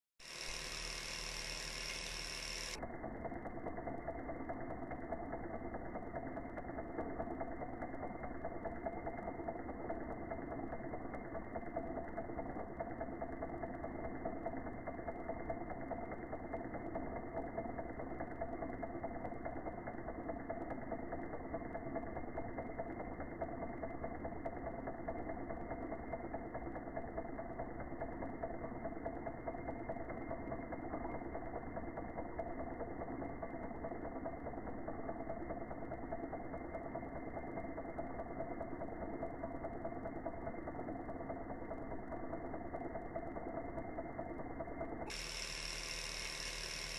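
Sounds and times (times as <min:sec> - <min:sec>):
model stirling engine whirring: 0:00.2 - 0:46.9.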